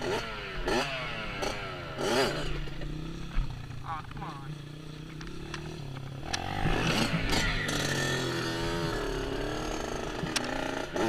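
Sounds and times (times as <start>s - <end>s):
small off-road engine revving: 0.0s - 11.0s.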